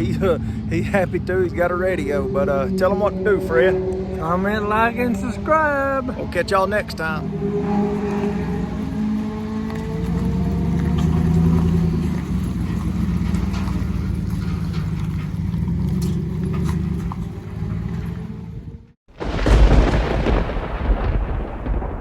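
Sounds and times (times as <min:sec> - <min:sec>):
road noise: 0:00.0 - 0:19.0
vehicle engine running: 0:00.0 - 0:19.0.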